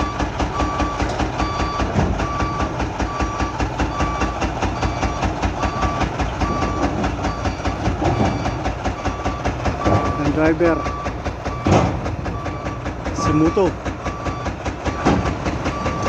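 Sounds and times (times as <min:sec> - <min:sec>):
back-up alarm beeping: 0:00.0 - 0:16.0
truck engine knocking: 0:00.0 - 0:16.0.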